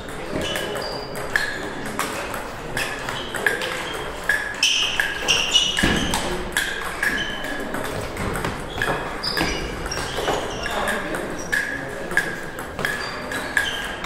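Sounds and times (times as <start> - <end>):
table tennis ball hits: 0.0 - 14.0.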